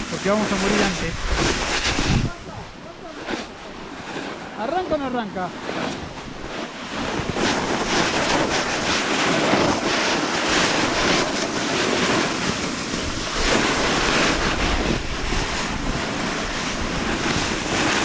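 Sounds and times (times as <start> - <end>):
snowboard scraping through snow: 0.0 - 18.0
wind buffeting microphone: 0.0 - 18.0.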